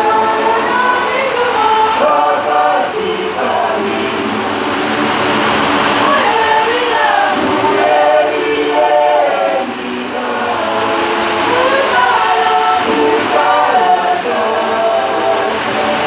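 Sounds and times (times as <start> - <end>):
crowd singing long held notes: 0.0 - 16.0
steady hiss: 0.0 - 16.0.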